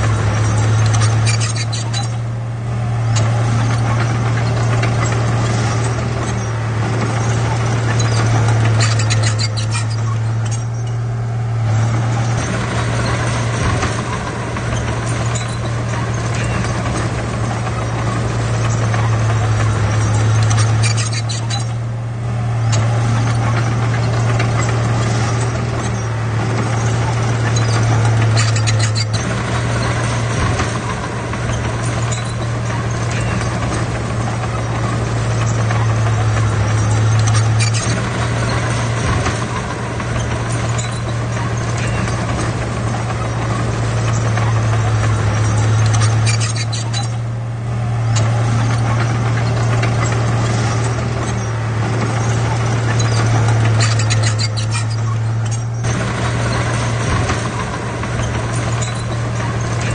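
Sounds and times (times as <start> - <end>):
bulldozer diesel engine humming: 0.0 - 59.9
mechanical clatter: 0.0 - 59.9.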